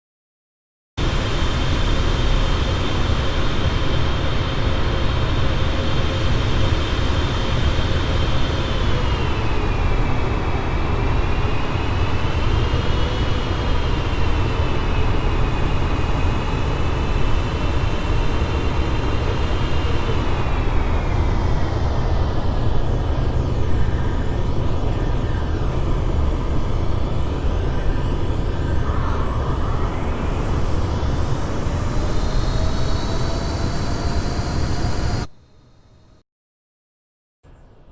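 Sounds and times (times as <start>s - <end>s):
heavy low wind noise: 1.0s - 35.8s
jet engines rumbling and whining: 1.0s - 36.2s.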